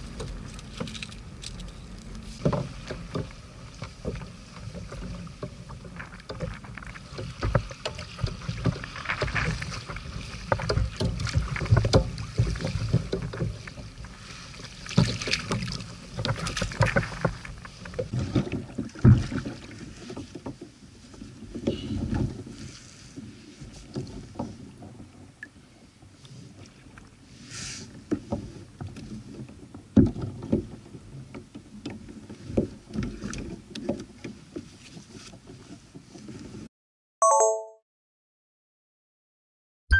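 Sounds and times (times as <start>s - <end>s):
knocks and clatter on kayak: 0.0s - 27.1s, 27.9s - 36.7s.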